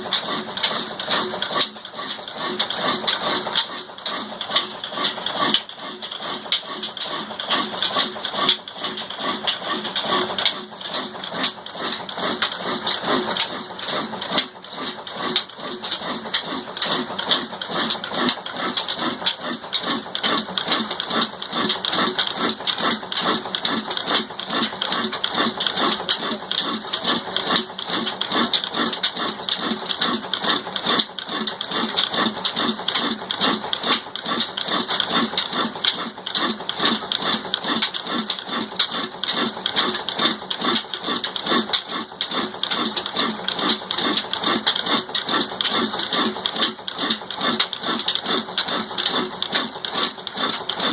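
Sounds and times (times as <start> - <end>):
single-cylinder engine running: 0.0 - 50.9.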